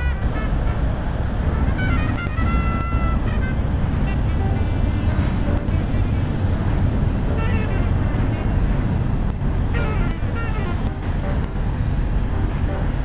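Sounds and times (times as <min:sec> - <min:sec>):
horns or squeals: 0:00.0 - 0:13.0
traffic rumble: 0:00.0 - 0:13.0.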